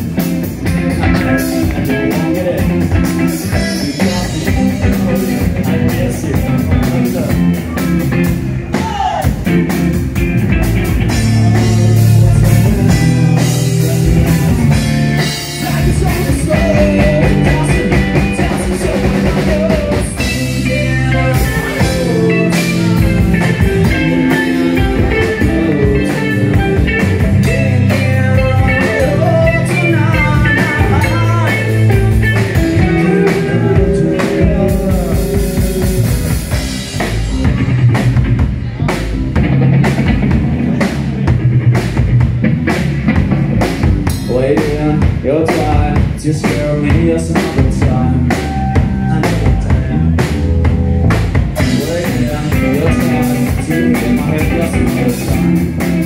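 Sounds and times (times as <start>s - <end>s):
drum kit: 0.0s - 56.0s
electric bass: 0.0s - 56.0s
electric guitars: 0.0s - 56.0s.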